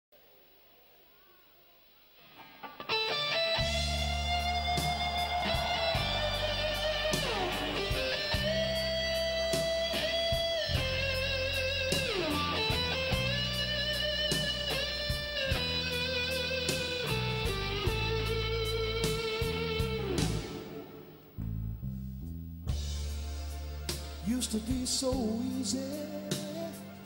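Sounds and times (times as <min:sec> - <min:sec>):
electric guitar blues lead: 0:02.2 - 0:22.1, 0:22.7 - 0:27.0
low bass notes: 0:03.6 - 0:27.0.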